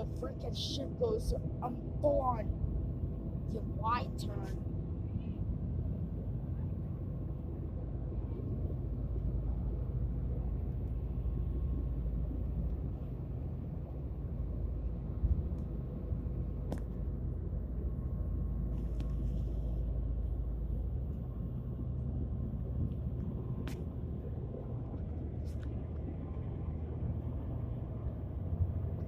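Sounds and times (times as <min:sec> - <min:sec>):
boat engine drone: 0:00.0 - 0:29.0
faint steady hum: 0:00.0 - 0:29.0.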